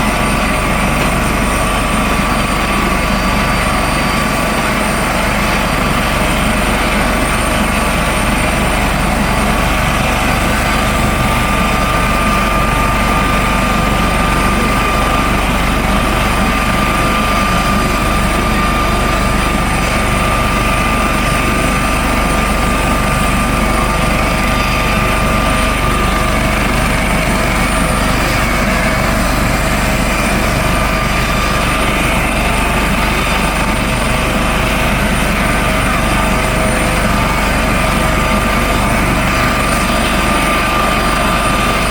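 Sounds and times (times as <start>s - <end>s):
helicopter turbine and rotor: 0.0s - 41.9s.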